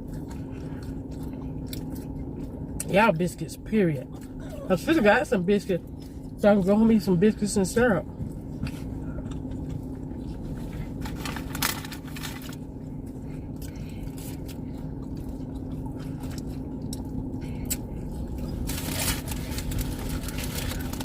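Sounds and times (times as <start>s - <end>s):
car interior hum: 0.0s - 21.0s
chewing and crunching food: 0.0s - 21.0s.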